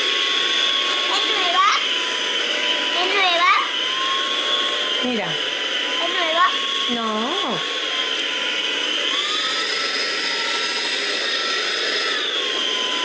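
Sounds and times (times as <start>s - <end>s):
vacuum cleaner whine: 0.0s - 13.0s.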